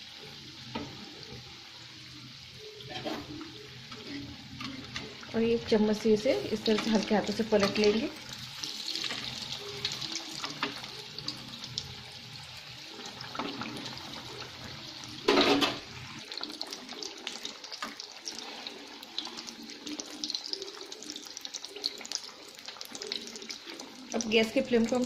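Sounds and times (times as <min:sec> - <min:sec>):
deep-frying sizzle with crackling pops: 0:00.0 - 0:25.0.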